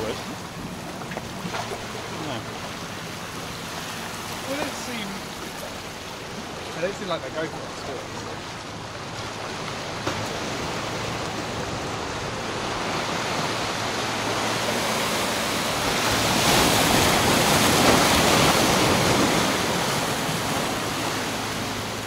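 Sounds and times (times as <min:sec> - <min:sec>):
sea surf washing over boulders: 0:00.0 - 0:22.0.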